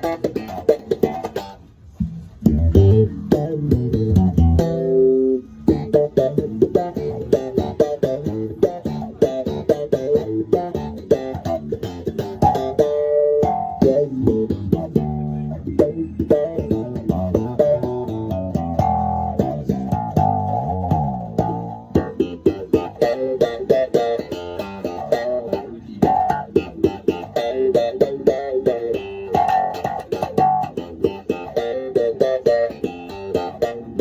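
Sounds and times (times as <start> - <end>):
slap bass with envelope filter: 0.0 - 34.0.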